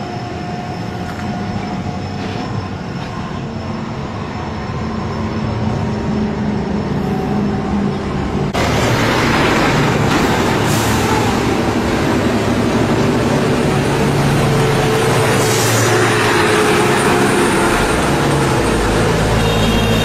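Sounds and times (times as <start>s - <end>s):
deep rumble of passing truck: 0.0s - 20.0s
diesel trucks droning uphill: 0.0s - 20.0s
road and engine noise: 0.0s - 20.0s.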